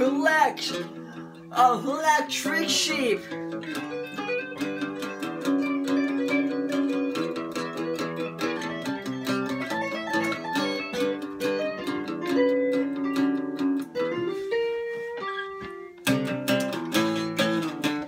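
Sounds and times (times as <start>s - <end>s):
acoustic guitar: 0.0s - 18.0s.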